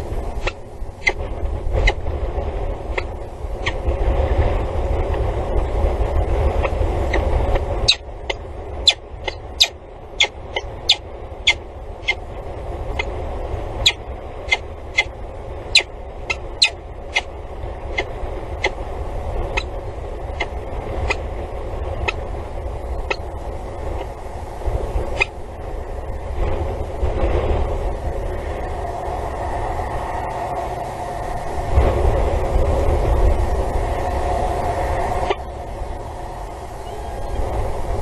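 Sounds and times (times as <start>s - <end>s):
distant road traffic rumble: 0.0s - 38.0s.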